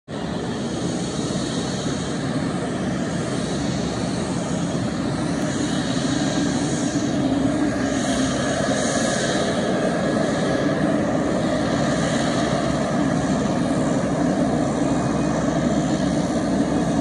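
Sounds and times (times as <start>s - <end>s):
turboprop engine drone and whine: 0.0s - 17.0s.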